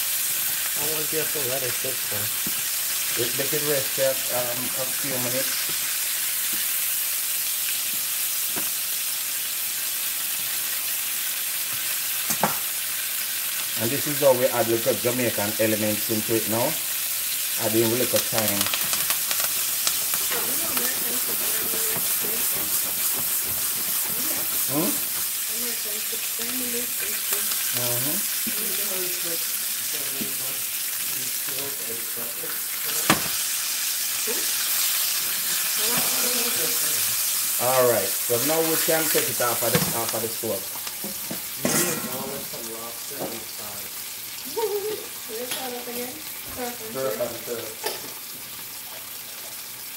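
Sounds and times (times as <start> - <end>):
steaks sizzling in pan: 0.0 - 49.9.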